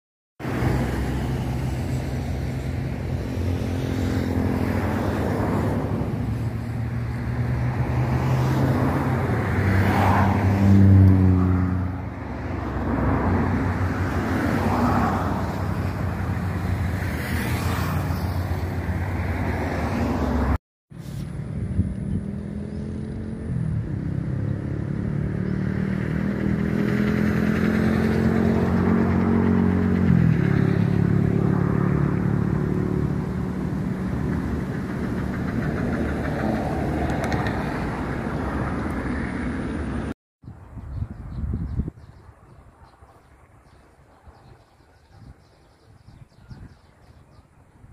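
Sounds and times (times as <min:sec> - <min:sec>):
vehicles passing: 0:00.4 - 0:47.9.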